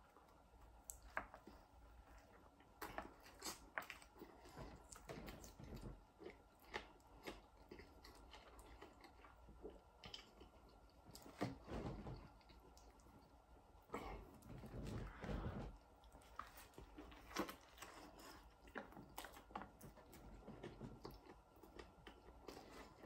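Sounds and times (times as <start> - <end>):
person chewing food: 0.1 - 23.0.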